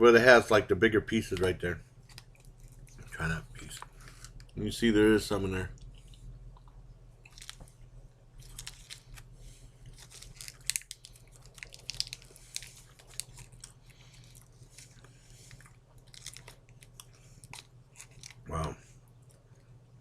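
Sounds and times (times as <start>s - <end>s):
faint low hum: 0.0s - 20.0s
person chewing cheese: 2.0s - 4.6s, 5.7s - 20.0s.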